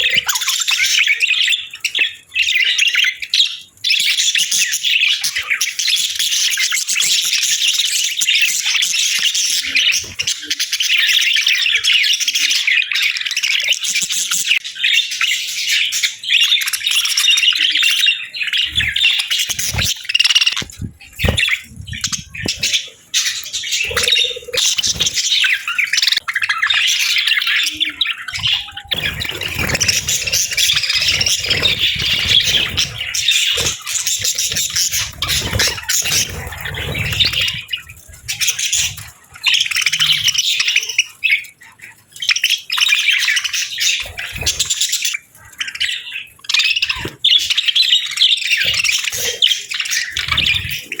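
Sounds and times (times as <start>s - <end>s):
budgerigars chirping and chattering: 0.0s - 51.0s.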